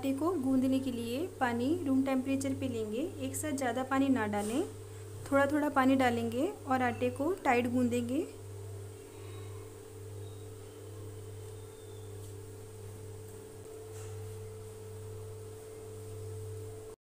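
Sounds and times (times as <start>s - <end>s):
low droning hum: 0.0s - 17.0s.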